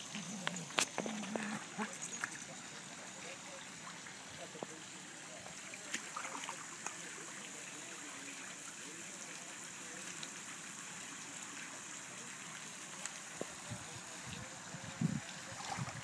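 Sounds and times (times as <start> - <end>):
hot tub jets churning water: 0.0 - 16.0.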